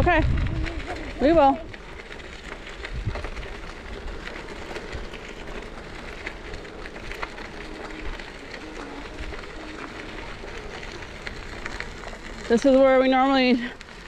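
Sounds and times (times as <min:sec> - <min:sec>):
bicycle tyres rolling on gravel: 0:00.0 - 0:14.0
wind rumble on microphone: 0:00.0 - 0:14.0.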